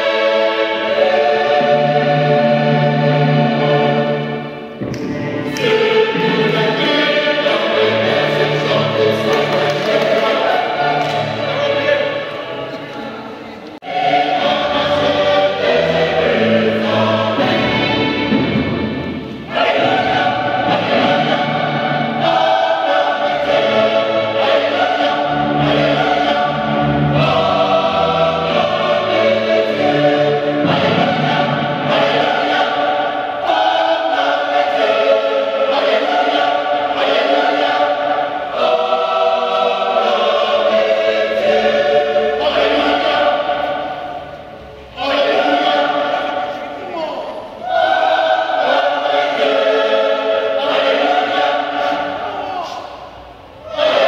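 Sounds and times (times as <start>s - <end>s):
choir singing gospel song: 0.0s - 54.0s.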